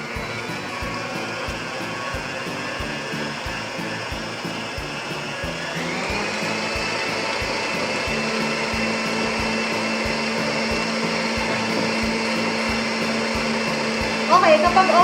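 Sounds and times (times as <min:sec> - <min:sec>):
background music with steady beat: 0:00.0 - 0:15.0
electric mixer motor whine: 0:00.0 - 0:15.0.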